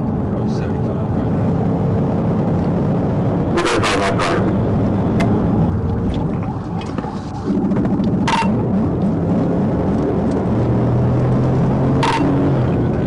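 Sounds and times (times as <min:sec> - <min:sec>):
car engine at high speed: 0:00.0 - 0:13.0
road noise: 0:00.0 - 0:13.0.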